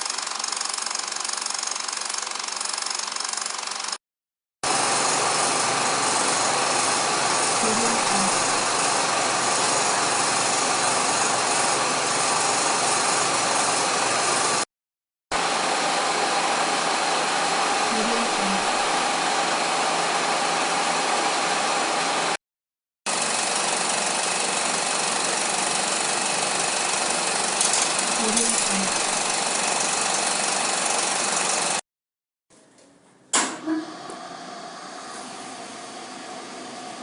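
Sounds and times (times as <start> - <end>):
film projector running: 0.0 - 4.0, 4.6 - 14.7, 15.4 - 22.4, 23.1 - 31.8.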